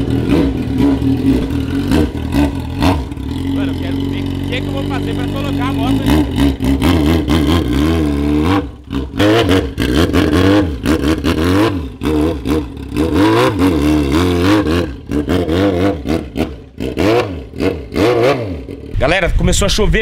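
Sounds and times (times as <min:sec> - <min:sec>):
motorcycle engine revving: 0:00.0 - 0:19.4.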